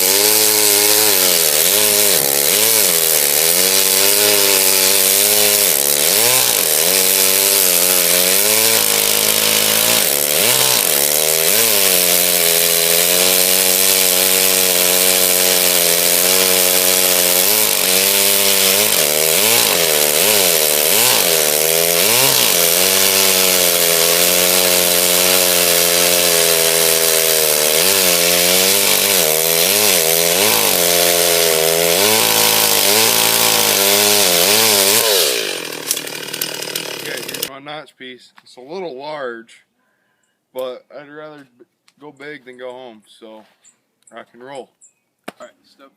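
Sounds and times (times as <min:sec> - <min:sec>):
chainsaw cutting tree trunk: 0:00.0 - 0:37.5.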